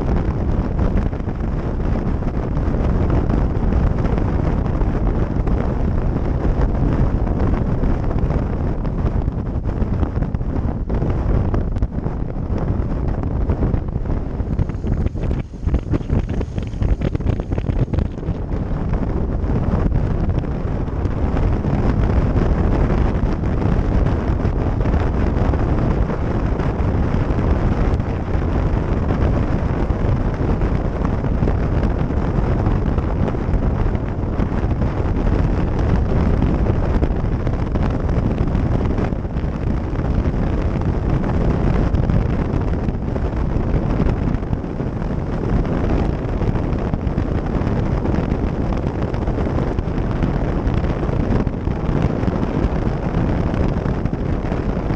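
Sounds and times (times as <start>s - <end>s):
motorcycle engine and road noise: 0.0s - 54.9s
wind rush on microphone: 0.0s - 54.9s.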